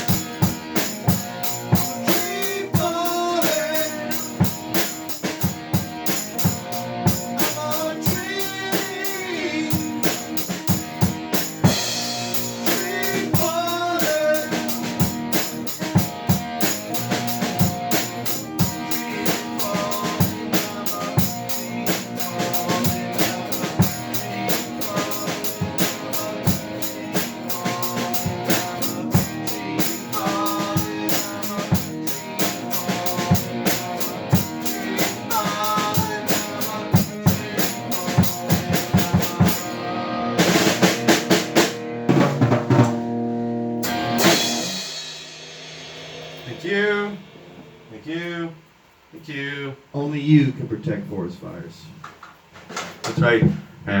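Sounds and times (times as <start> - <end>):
drum kit beat: 0.0 - 48.0
lead melody with bending notes: 0.0 - 48.0.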